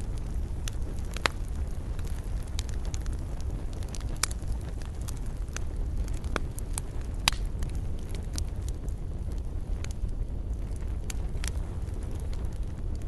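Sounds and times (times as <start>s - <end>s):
campfire crackling and popping: 0.0s - 13.0s
low fire rumble: 0.0s - 13.0s.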